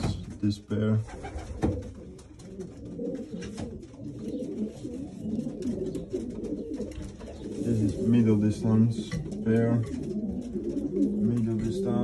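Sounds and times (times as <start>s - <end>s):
pigeons cooing: 1.0s - 12.0s.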